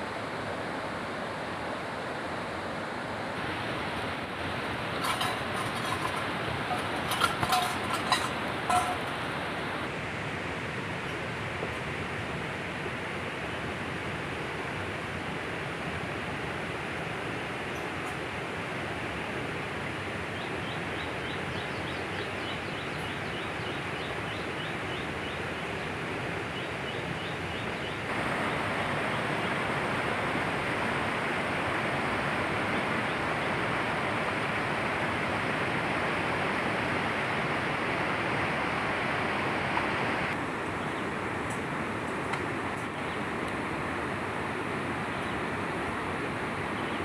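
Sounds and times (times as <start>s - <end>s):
river running over rocks: 0.0s - 20.3s, 24.7s - 47.0s.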